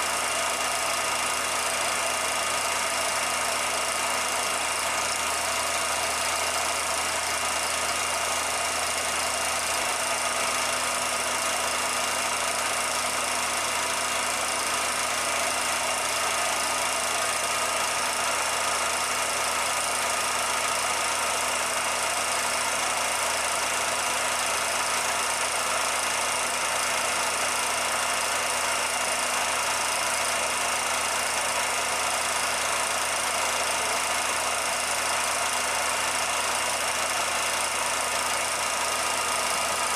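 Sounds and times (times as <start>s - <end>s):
mechanical running noise: 0.0s - 39.9s.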